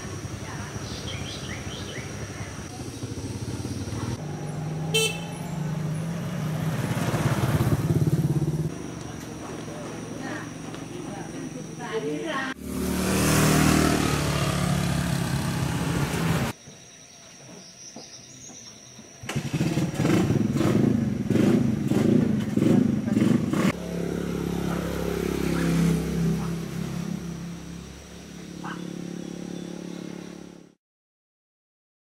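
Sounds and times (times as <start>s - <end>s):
motorbike engines running: 0.0s - 16.6s, 19.2s - 30.8s.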